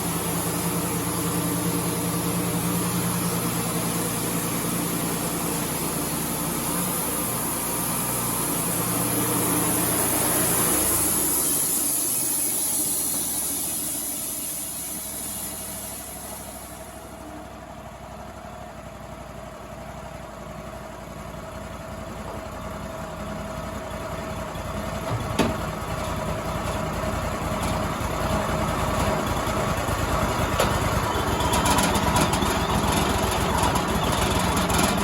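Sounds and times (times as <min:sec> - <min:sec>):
band sawmill running: 0:00.0 - 0:35.0.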